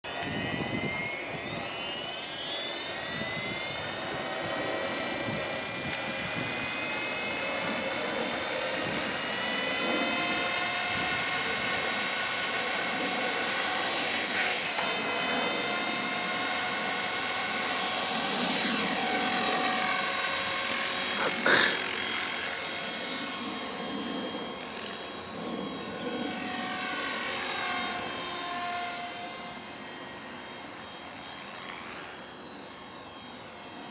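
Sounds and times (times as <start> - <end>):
rc helicopter motor whining: 0.0 - 33.9.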